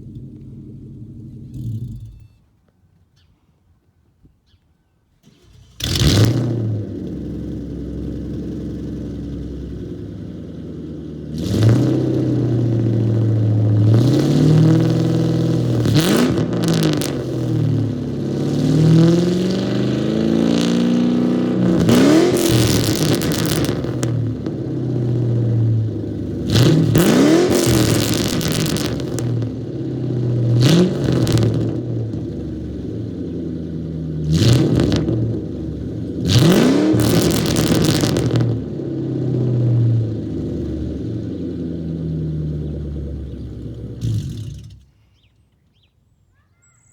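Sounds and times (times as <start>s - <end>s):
car engine starting and revving: 0.0s - 2.4s, 5.2s - 45.0s.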